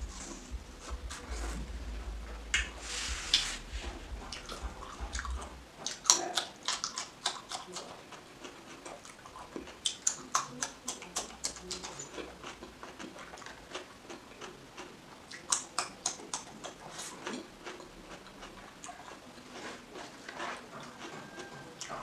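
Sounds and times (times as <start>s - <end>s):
crunching cucumber being chewed: 2.5s - 22.0s.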